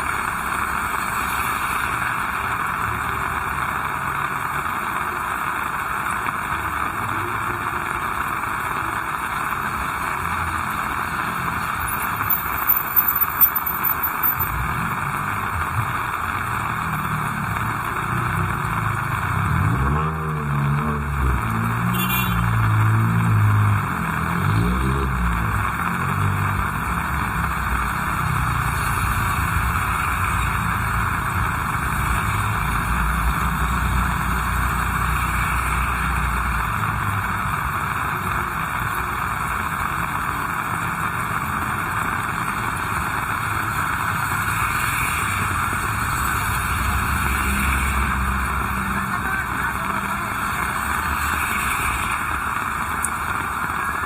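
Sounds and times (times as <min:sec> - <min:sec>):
heavy rain: 0:00.0 - 0:54.0
passing vehicles rumble: 0:00.0 - 0:54.0.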